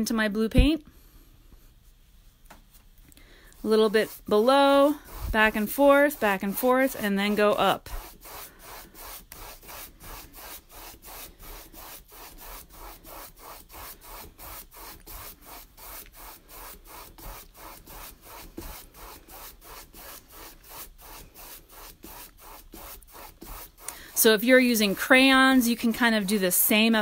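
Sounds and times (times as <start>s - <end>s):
paintbrush scrubbing on canvas: 3.5s - 27.0s.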